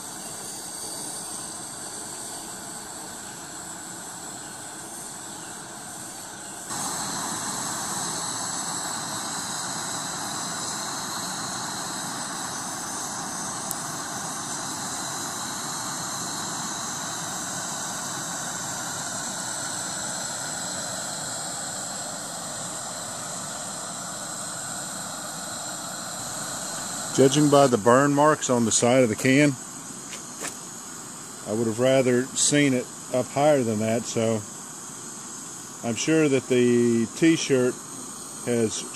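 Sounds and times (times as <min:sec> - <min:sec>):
stove burner hissing: 0:00.0 - 0:38.9.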